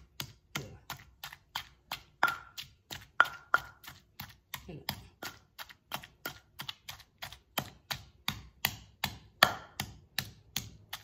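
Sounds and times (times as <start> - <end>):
stone pestle pounding in mortar: 0.0 - 11.0.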